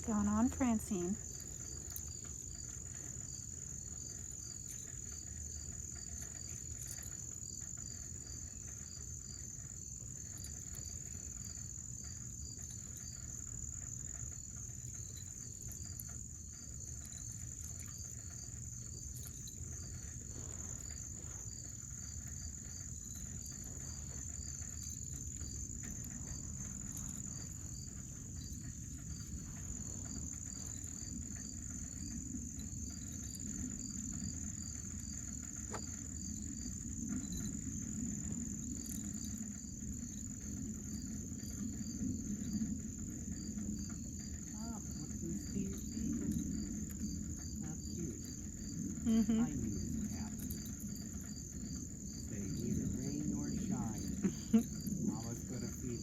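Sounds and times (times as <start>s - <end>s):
crickets trilling: 0.0s - 56.0s
low steady rumble: 0.0s - 56.0s.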